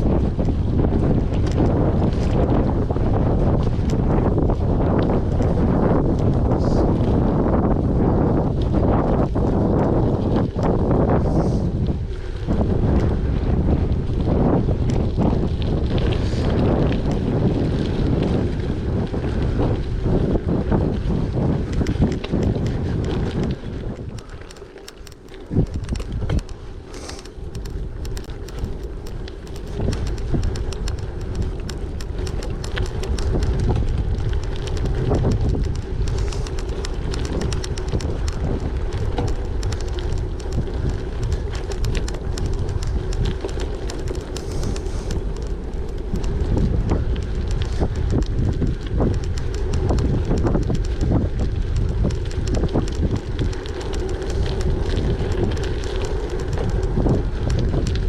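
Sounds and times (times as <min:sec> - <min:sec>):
bike tyres crunching over gravel: 0:00.0 - 0:58.0
wind buffeting microphone: 0:00.0 - 0:58.0.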